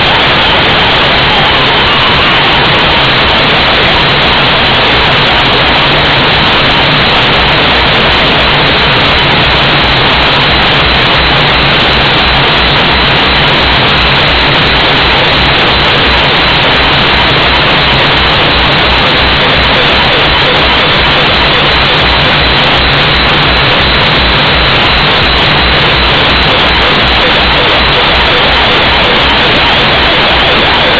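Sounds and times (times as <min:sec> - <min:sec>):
air compressor running: 0:00.0 - 0:30.9.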